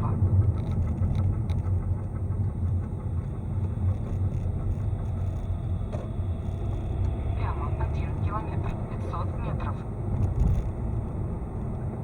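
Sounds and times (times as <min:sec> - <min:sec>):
car driving with road rumble: 0:00.0 - 0:12.0.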